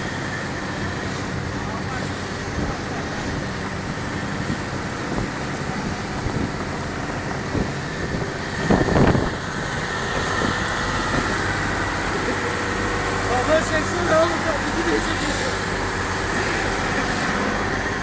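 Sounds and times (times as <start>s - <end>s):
boat engine humming: 0.0s - 18.0s
water noise: 0.0s - 18.0s
wind: 0.0s - 18.0s.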